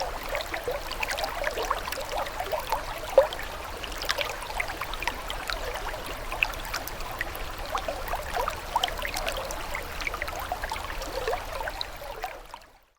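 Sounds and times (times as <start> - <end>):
water trickling and babbling: 0.0 - 12.9.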